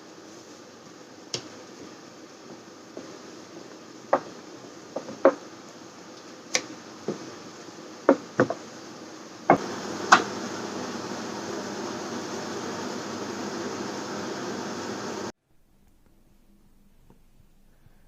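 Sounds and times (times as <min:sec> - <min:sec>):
fan rushing noise: 0:00.0 - 0:15.3.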